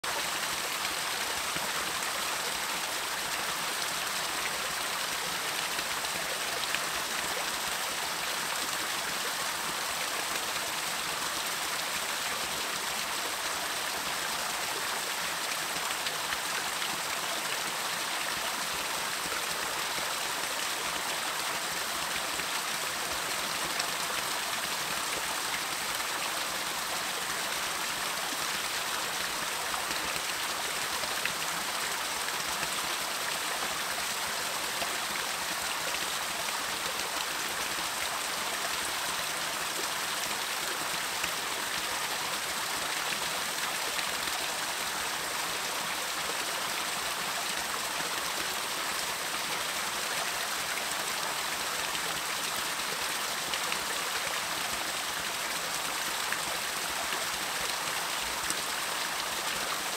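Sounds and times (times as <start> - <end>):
waterfall splashing over rocks: 0.0 - 59.9.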